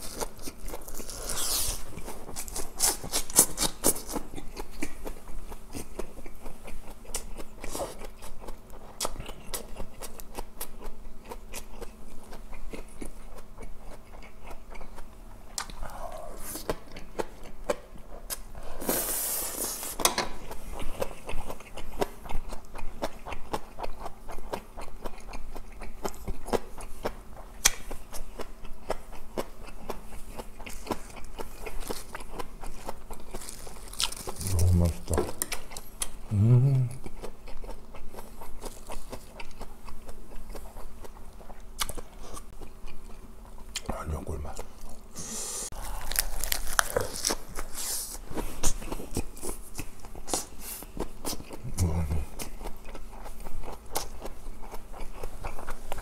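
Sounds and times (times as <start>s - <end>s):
person chewing and lip-smacking: 0.0s - 18.5s, 20.4s - 56.0s.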